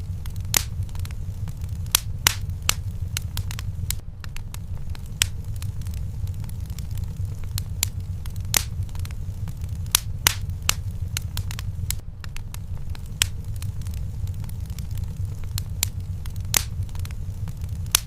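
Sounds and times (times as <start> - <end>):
fire low rumble: 0.0 - 18.0
wood fire crackling: 0.0 - 18.0.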